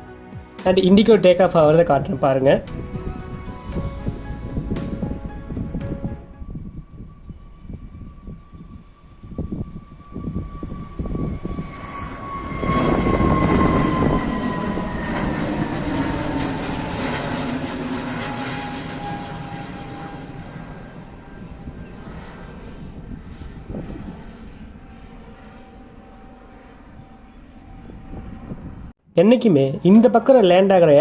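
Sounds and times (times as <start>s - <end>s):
airliner taking off: 0.0s - 28.9s
high engine whine falling in pitch: 0.0s - 28.9s.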